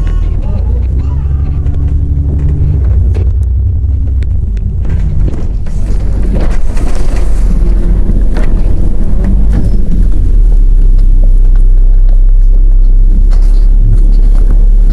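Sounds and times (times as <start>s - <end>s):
bus engine rumble: 0.0s - 14.9s.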